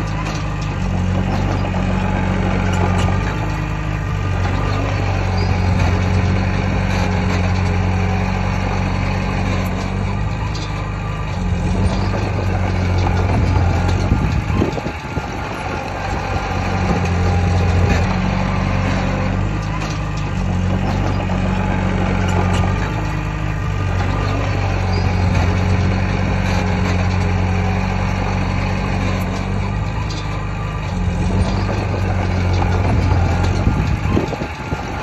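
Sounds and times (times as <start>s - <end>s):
diesel machinery running: 0.0s - 35.0s.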